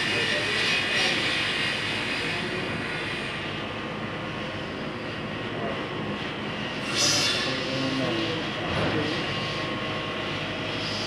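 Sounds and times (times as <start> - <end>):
workshop machinery drone: 0.0 - 11.0.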